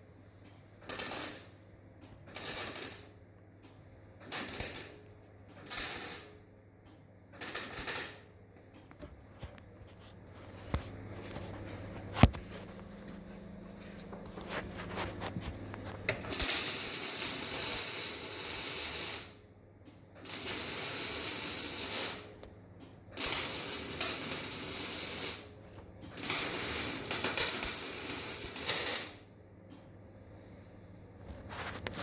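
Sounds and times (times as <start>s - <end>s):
arc welder crackling: 0.4s - 29.8s.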